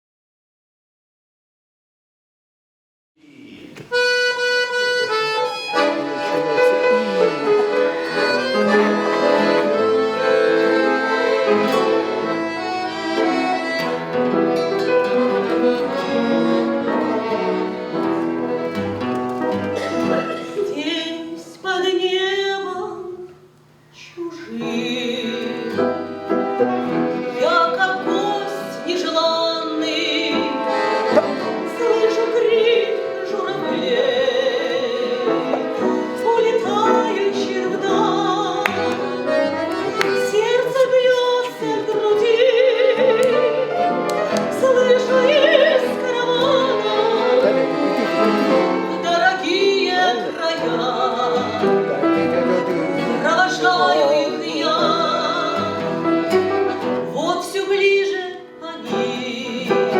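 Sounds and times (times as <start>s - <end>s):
slow romance music: 3.8s - 21.4s, 23.2s - 59.9s.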